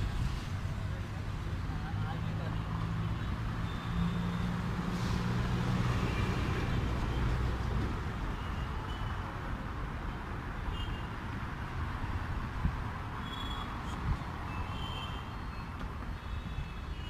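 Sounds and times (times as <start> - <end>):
passing road traffic rumble: 0.0 - 17.0.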